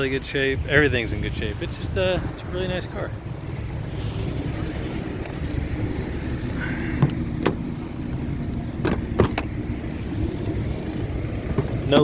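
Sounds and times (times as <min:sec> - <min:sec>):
car engine idling: 0:02.0 - 0:12.0.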